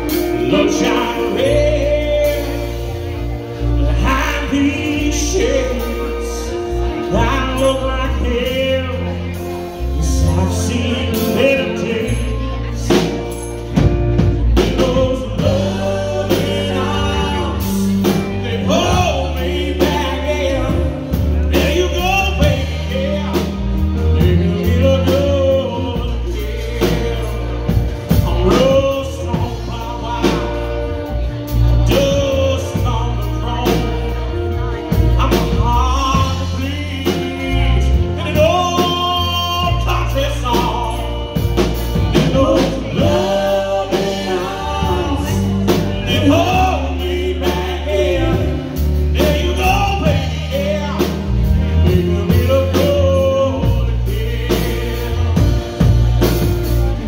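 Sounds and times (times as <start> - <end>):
bass guitar: 0.0 - 57.0
drum kit: 0.0 - 57.0
man singing: 0.0 - 57.0.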